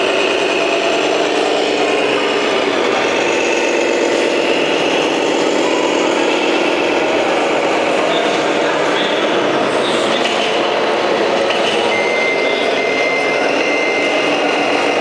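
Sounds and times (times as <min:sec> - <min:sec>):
bus engine drone: 0:00.0 - 0:15.0
drivetrain whine: 0:00.0 - 0:15.0.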